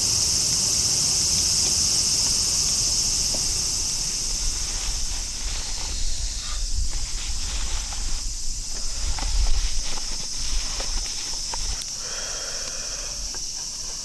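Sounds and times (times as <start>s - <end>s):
insects chirping chorus: 0.0s - 14.0s.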